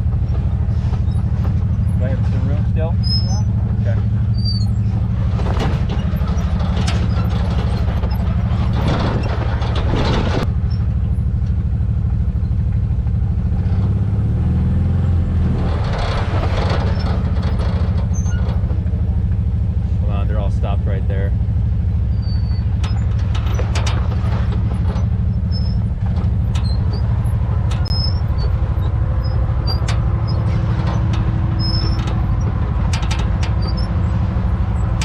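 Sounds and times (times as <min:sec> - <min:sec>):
utility vehicle engine running: 0:00.0 - 0:35.0.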